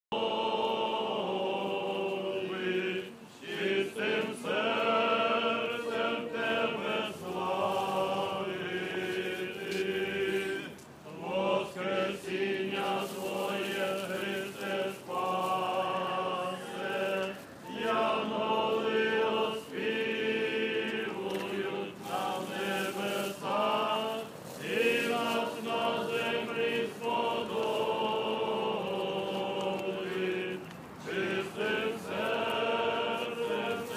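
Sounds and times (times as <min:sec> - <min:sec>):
group chanting liturgical chant: 0:00.1 - 0:33.9.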